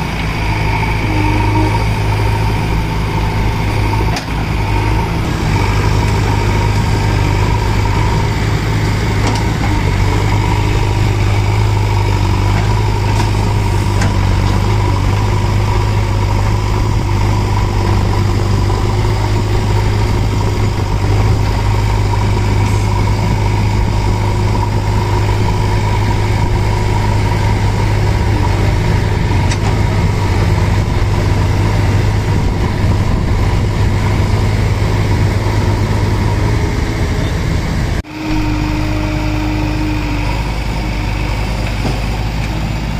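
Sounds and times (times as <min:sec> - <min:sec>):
diesel engine droning: 0:00.0 - 0:42.9.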